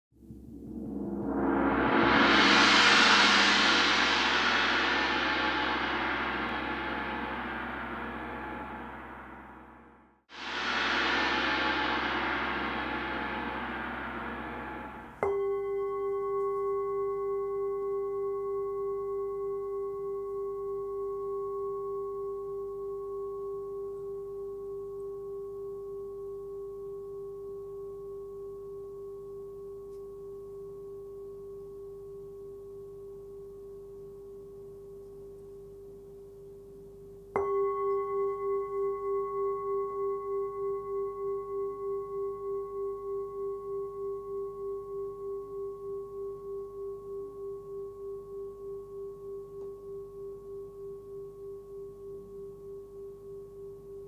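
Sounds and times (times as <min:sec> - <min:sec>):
singing bowl ringing: 0:10.4 - 0:54.0.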